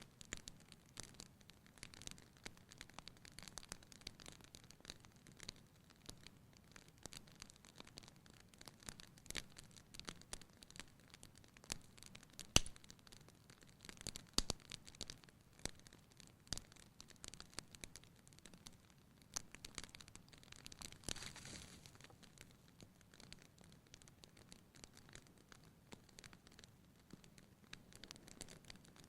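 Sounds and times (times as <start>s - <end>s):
soft hiss of flame: 0.0s - 29.0s
wood fire crackling: 0.0s - 29.0s.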